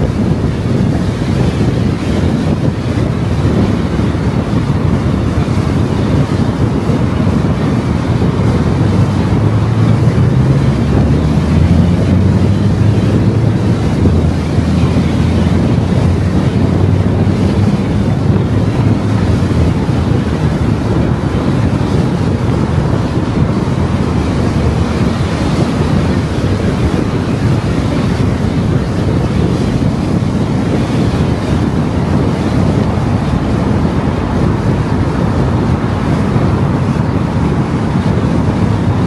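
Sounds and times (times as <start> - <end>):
low engine drone: 0.0 - 39.0
tyre and wind noise: 0.0 - 39.0.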